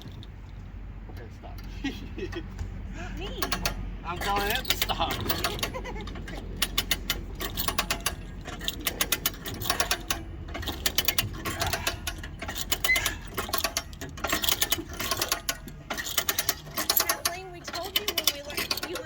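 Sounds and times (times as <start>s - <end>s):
hand winch ratcheting clicks: 3.3s - 19.0s.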